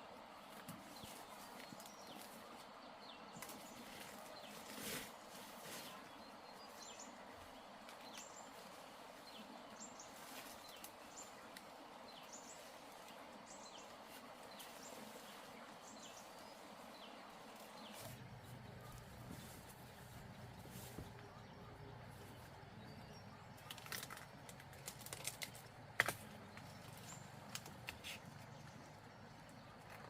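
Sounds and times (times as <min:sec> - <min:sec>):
birds chirping faintly: 0:00.0 - 0:30.0
outdoor background hiss: 0:00.0 - 0:30.0.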